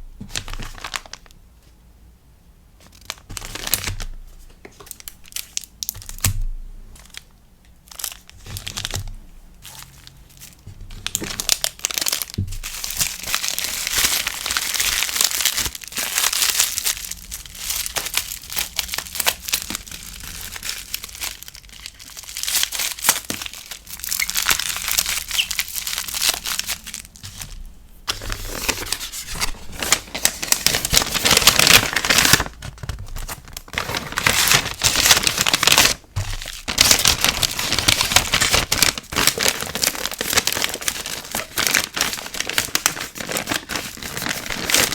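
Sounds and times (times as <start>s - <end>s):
packaging crinkling and rustling: 0.2s - 1.4s, 2.8s - 44.9s.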